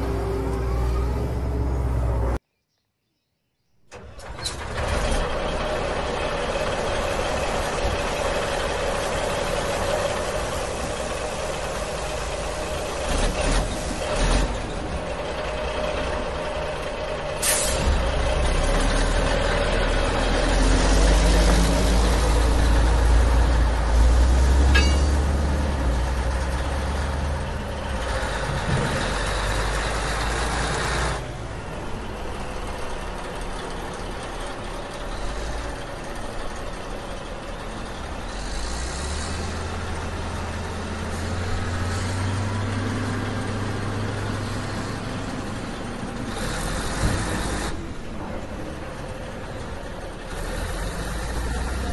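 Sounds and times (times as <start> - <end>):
heavy truck engine rumbling: 0.0 - 2.4, 3.9 - 51.9.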